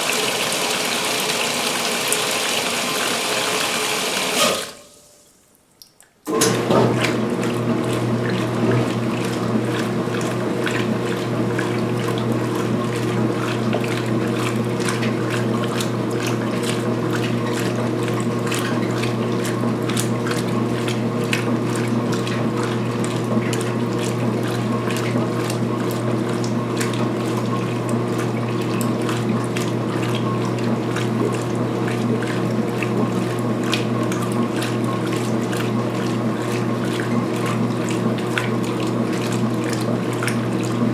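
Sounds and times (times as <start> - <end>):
washing machine motor hum: 0.0 - 5.2, 6.3 - 40.9
water churning: 0.0 - 40.9.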